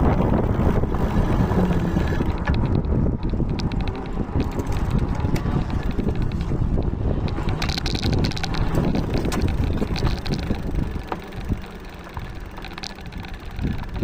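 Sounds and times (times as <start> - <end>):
small clicks and rattles: 0.0 - 14.0
tyre and road noise: 0.0 - 14.0
wind rumbling on microphone: 0.0 - 14.0.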